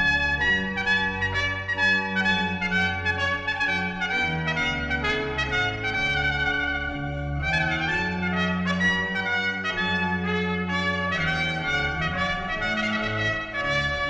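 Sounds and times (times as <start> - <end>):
brass theme music: 0.0 - 14.0.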